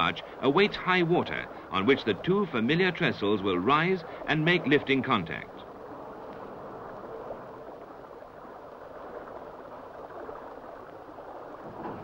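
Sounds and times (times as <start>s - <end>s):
river water lapping: 0.0s - 12.0s.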